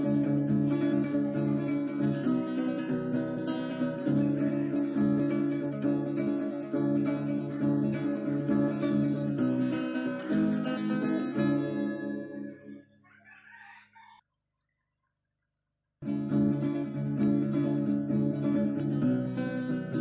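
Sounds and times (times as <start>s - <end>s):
guitar music: 0.0s - 13.0s, 16.0s - 20.0s.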